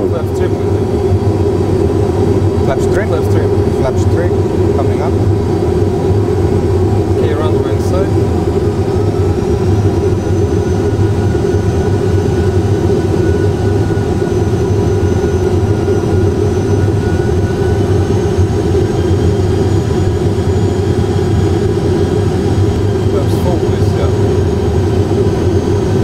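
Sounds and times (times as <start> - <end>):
jet engine and airflow noise: 0.0 - 26.0.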